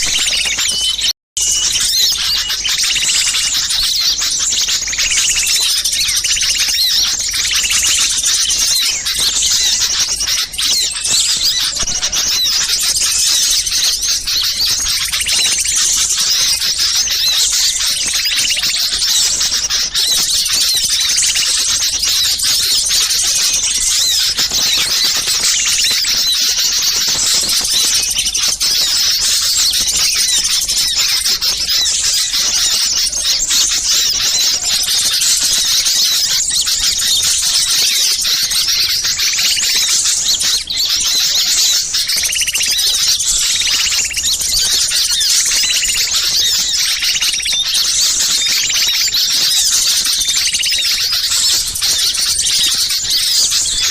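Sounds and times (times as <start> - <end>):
small songbirds chattering: 0.0 - 53.9.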